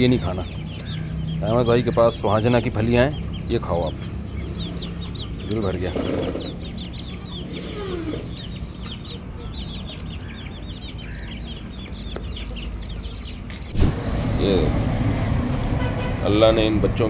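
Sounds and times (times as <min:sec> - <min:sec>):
farmyard birds peeping: 0:00.0 - 0:17.0.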